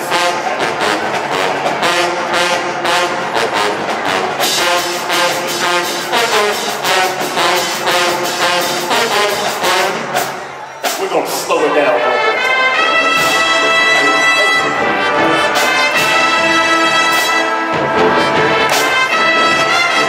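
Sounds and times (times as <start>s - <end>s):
brass section holding loud chords: 0.0s - 20.0s.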